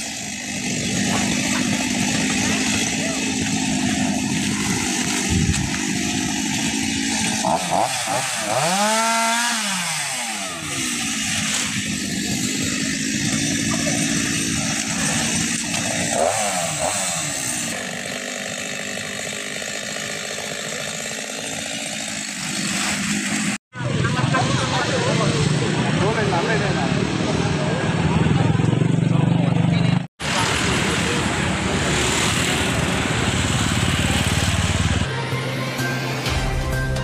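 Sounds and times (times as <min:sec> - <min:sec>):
chainsaw revving: 0:00.0 - 0:23.6, 0:24.2 - 0:35.1.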